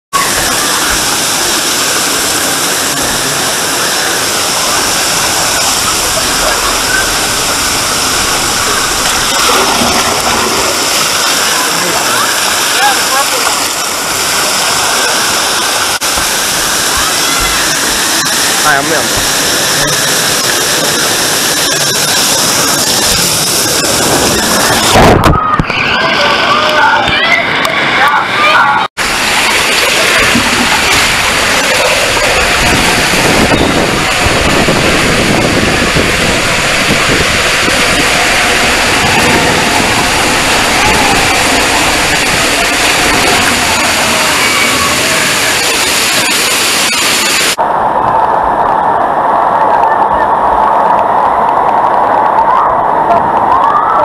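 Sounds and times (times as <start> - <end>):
water rushing and splashing: 0.1 - 54.0.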